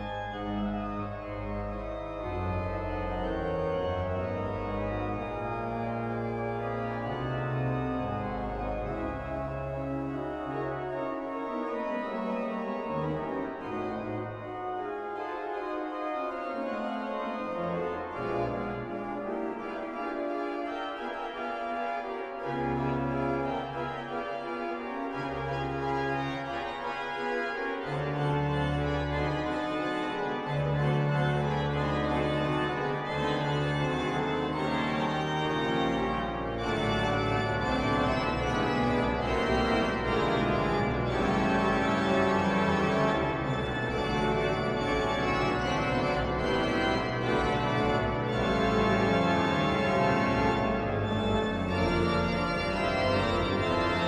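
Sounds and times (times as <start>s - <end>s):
pipe organ playing chords: 0.0s - 54.0s.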